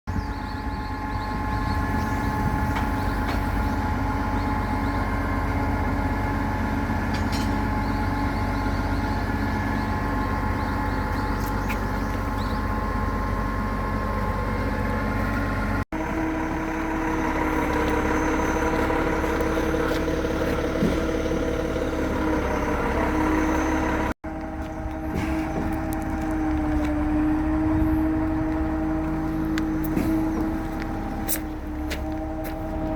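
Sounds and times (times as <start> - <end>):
diesel engine and pump drone: 0.1 - 32.9.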